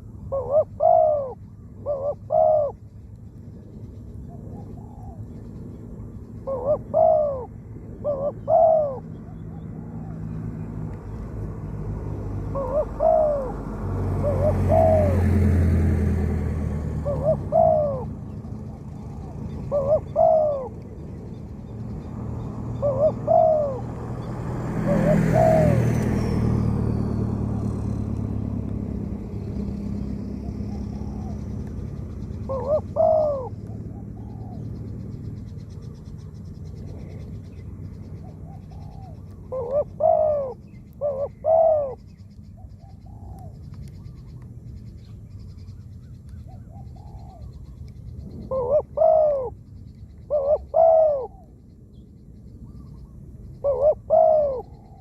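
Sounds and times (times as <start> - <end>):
dove cooing: 0.0 - 2.8, 4.2 - 10.7, 11.7 - 21.3, 22.0 - 28.5, 29.1 - 44.2, 45.6 - 51.6, 52.7 - 55.0.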